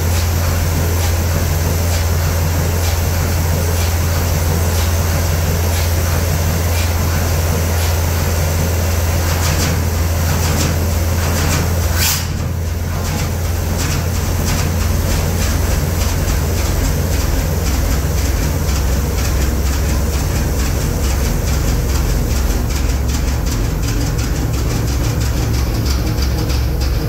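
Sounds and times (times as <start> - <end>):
diesel engine knocking hum: 0.0 - 27.0.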